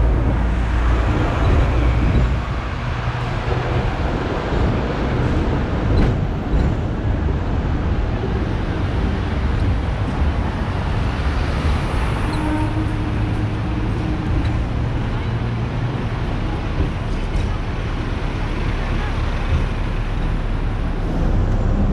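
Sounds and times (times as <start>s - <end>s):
road traffic: 0.0s - 21.9s
tram rumbling on rails: 0.0s - 21.9s.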